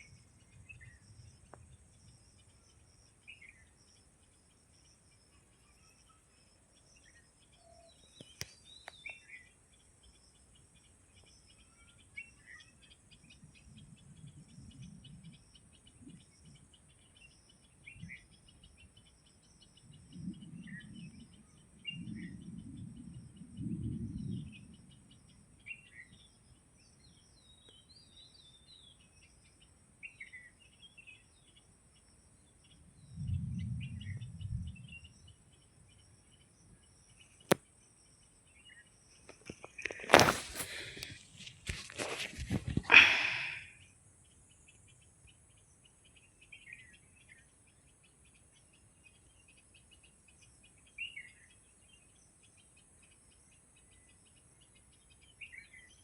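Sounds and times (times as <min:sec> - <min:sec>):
bird chirps: 0:00.0 - 0:56.0
insects droning: 0:00.0 - 0:56.0.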